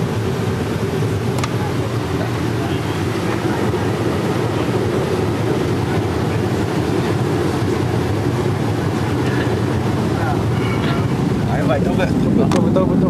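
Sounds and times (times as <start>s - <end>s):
airplane engine rumble: 0.0s - 13.0s
rushing air: 0.0s - 13.0s.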